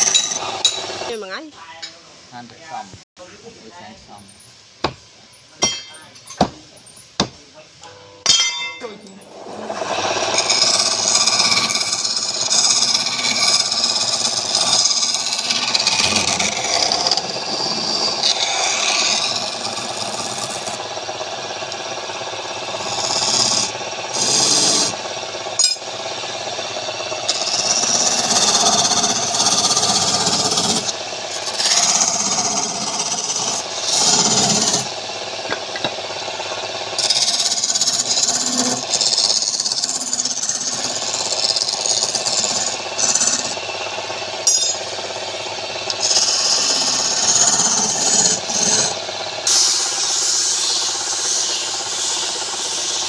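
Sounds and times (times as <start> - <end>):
lathe tool cutting wood: 0.0 - 1.4, 9.3 - 53.0.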